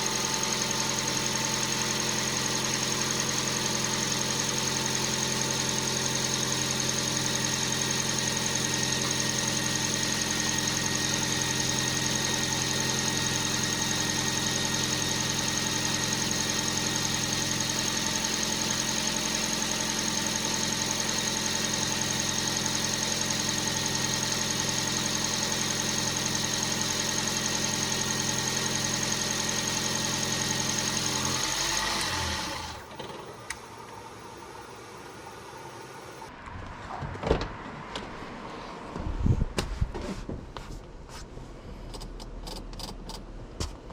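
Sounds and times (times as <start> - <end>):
car engine idling: 0.0 - 36.4.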